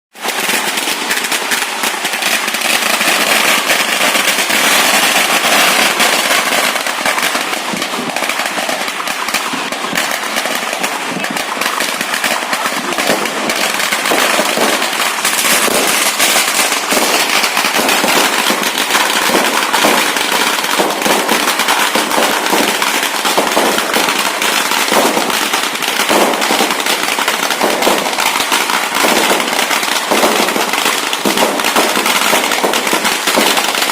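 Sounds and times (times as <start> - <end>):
fireworks crackling and banging: 0.1 - 33.9.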